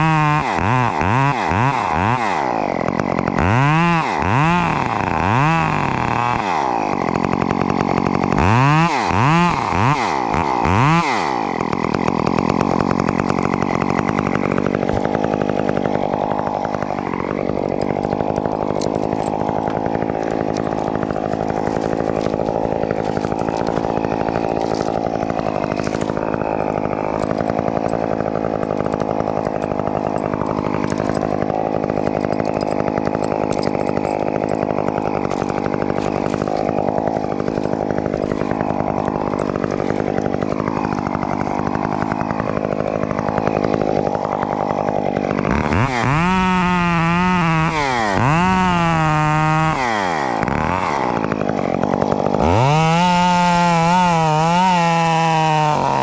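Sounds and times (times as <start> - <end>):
chainsaw running: 0.0 - 56.0.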